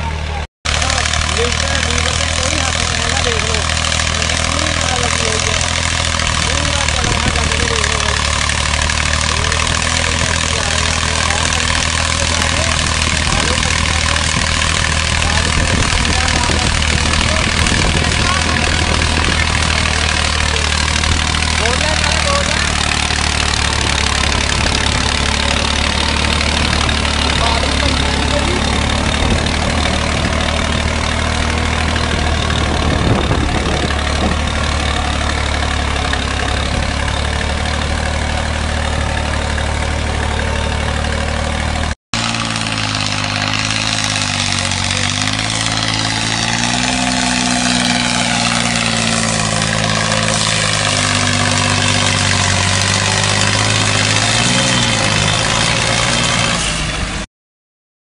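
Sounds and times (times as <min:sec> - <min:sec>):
tractor diesel engine under load: 0:00.0 - 0:57.3.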